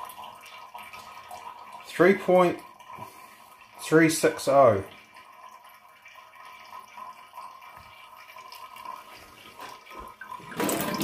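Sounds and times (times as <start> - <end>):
water splashing into metal sink: 0.0 - 11.0
water trickling and dripping: 0.0 - 11.0.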